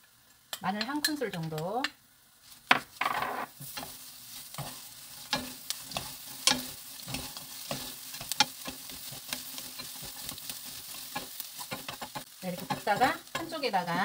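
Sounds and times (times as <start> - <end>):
frying sizzle: 0.0 - 14.0
wooden spatula scraping pan: 2.5 - 14.0.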